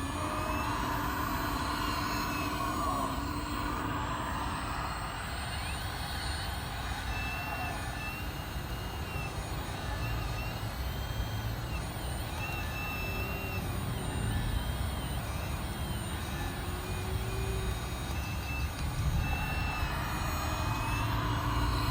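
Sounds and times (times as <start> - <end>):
hydraulic pump whine: 0.0 - 21.9.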